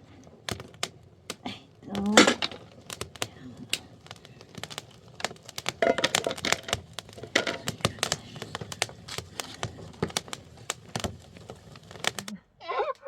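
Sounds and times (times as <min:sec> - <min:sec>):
sharp clicks and light knocks: 0:00.2 - 0:12.4.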